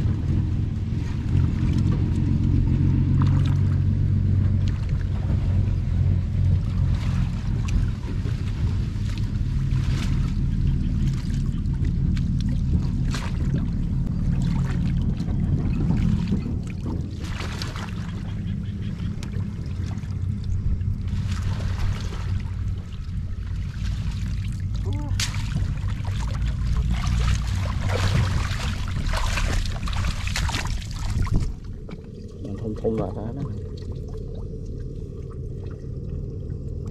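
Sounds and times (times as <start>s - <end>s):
steady low hum: 0.0s - 36.9s
steady low rumble: 0.0s - 36.9s
water sloshing and splashing: 0.0s - 36.9s.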